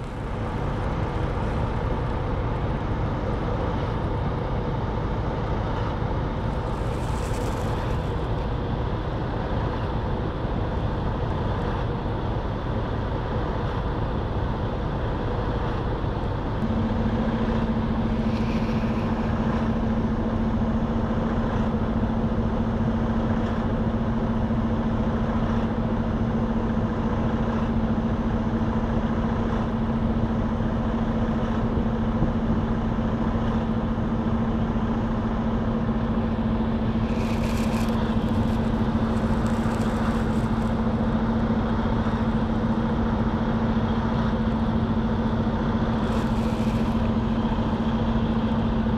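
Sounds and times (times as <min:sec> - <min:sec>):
car engine and road noise: 0:00.0 - 0:48.9
steady low hum: 0:00.0 - 0:48.9.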